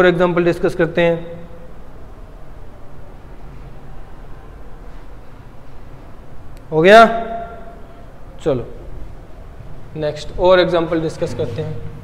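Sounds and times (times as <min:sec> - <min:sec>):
low background rumble and hiss: 0:00.0 - 0:12.0.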